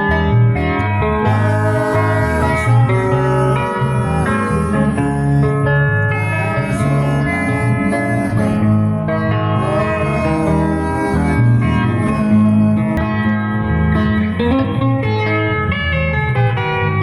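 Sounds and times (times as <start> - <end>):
bass notes: 0.0 - 17.0
plucked guitars: 0.0 - 17.0.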